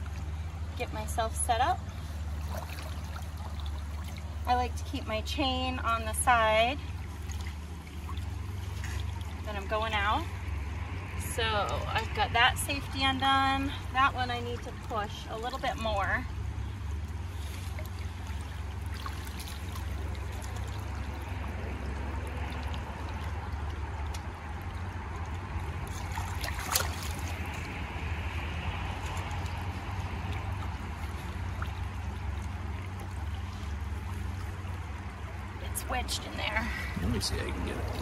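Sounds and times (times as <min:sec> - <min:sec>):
low rumble: 0:00.0 - 0:38.0
stream water trickling: 0:00.0 - 0:38.0.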